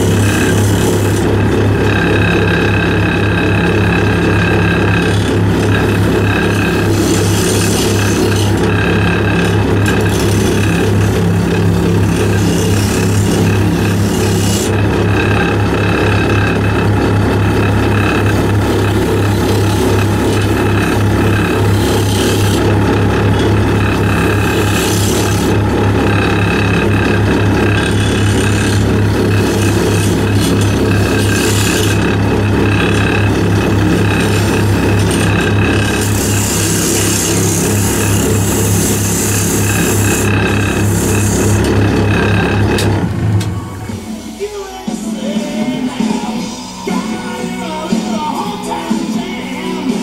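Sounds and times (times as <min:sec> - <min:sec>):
turning tool scraping wood: 0:00.0 - 0:43.5
wood lathe humming: 0:00.0 - 0:50.0.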